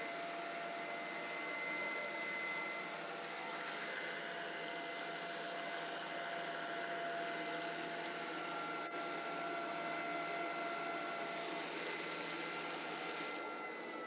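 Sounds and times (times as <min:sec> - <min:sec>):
robot vacuum humming: 0:00.0 - 0:14.0.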